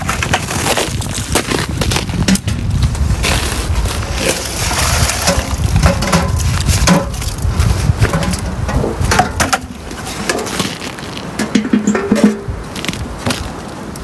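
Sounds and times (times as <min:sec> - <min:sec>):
ice crunching in metal bucket: 0:00.0 - 0:12.5.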